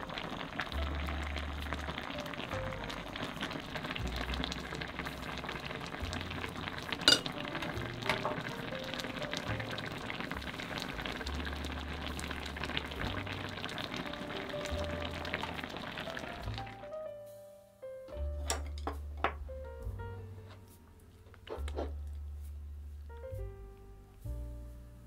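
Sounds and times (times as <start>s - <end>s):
stew simmering and bubbling: 0.0s - 16.9s, 18.1s - 23.2s
quiet background music: 0.0s - 25.0s.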